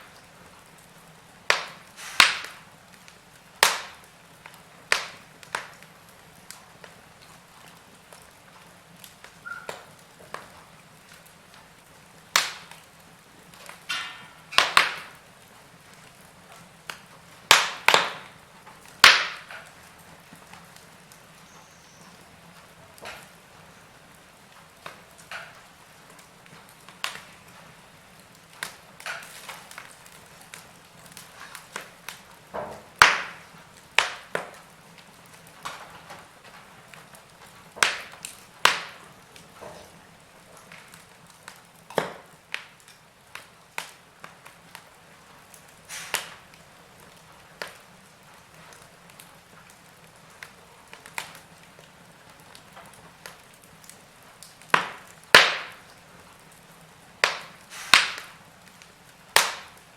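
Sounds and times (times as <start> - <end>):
faint steady hiss: 0.0 - 59.9
log fire crackling: 0.0 - 59.9.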